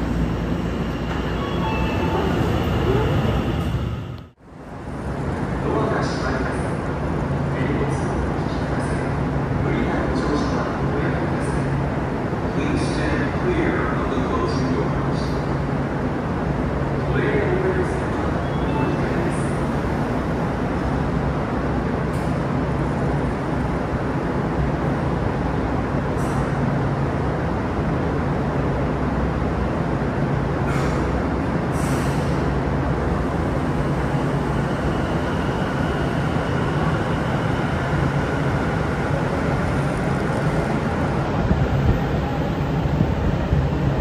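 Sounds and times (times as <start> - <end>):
train low hum: 0.0 - 44.0.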